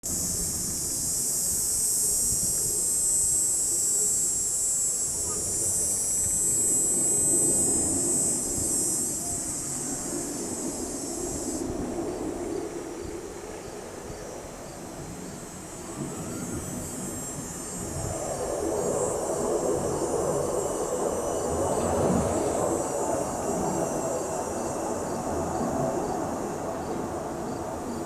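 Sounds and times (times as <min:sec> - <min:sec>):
high steady buzz: 0:00.0 - 0:28.0
distant jet aircraft rumbling: 0:05.2 - 0:28.0.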